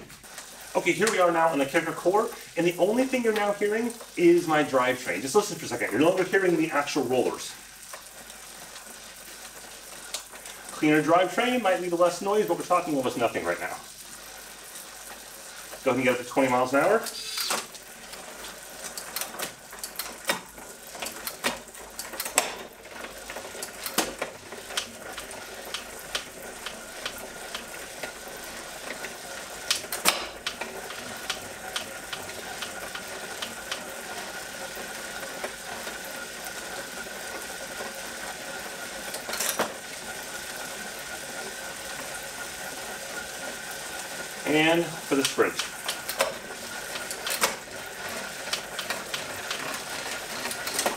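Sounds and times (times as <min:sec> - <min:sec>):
bicycle chain whirring: 0:00.0 - 0:50.9.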